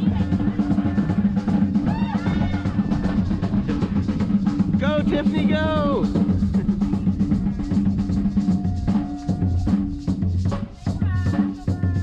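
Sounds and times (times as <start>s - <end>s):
bass line: 0.0s - 10.0s
drum kit beat: 0.0s - 12.0s.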